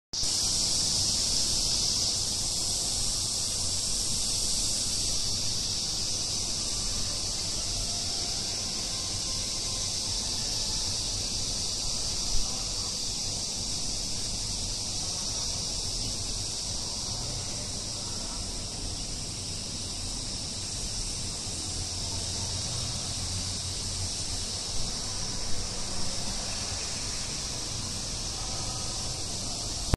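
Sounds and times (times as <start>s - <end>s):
high-pitched outdoor ambience: 0.2s - 29.9s.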